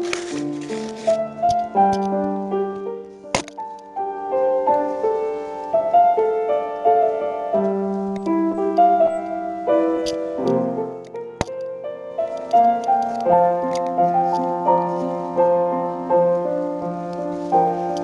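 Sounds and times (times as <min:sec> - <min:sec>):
slow keyboard music: 0:00.0 - 0:18.0.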